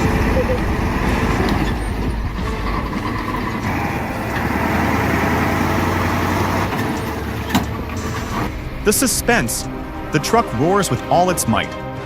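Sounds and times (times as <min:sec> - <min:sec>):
truck diesel engine running: 0:00.0 - 0:10.6.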